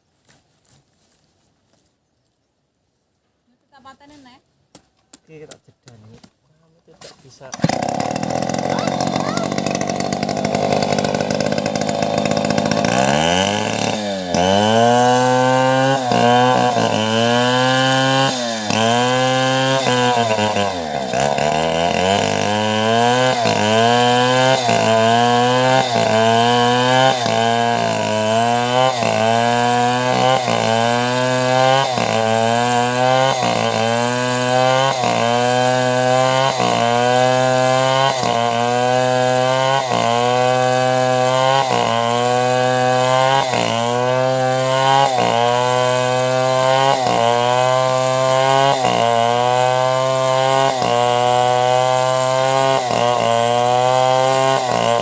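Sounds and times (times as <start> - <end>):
chainsaw ripping a log: 7.0 - 55.0.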